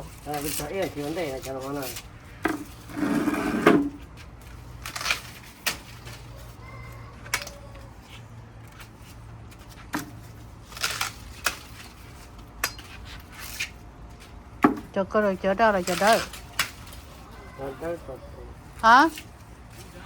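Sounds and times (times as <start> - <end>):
rustling: 0.0 - 14.5, 15.3 - 20.0.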